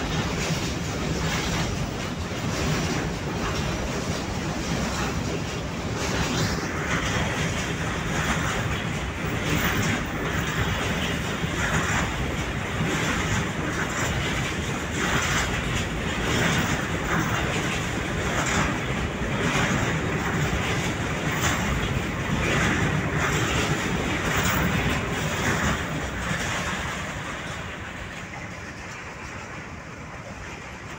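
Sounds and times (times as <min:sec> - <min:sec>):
steel wheels rumbling on rail: 0:00.0 - 0:30.9
wagons clattering: 0:00.0 - 0:30.9.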